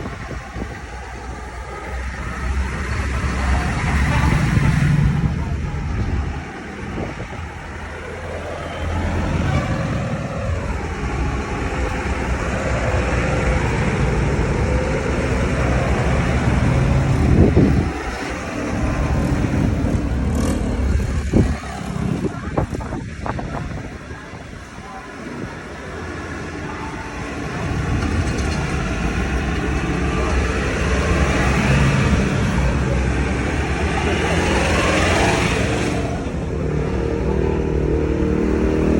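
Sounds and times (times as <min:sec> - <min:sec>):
tractor engines rumbling: 0:00.0 - 0:38.9.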